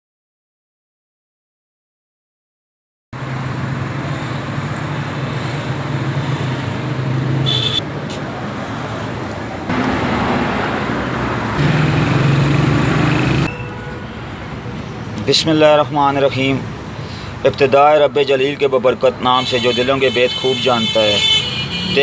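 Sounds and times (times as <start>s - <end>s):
road traffic engine hum: 3.2s - 22.0s.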